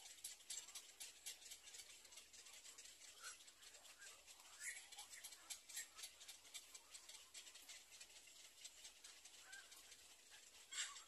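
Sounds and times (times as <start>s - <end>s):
faint ticks: 0.0s - 11.0s.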